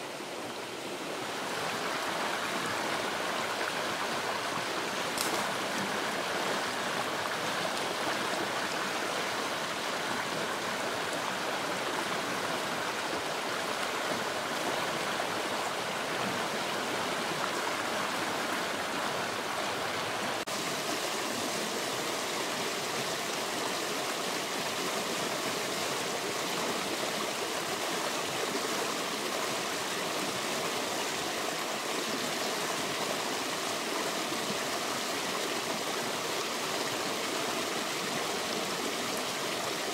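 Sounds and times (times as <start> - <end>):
water rushing over stones: 0.0 - 39.9.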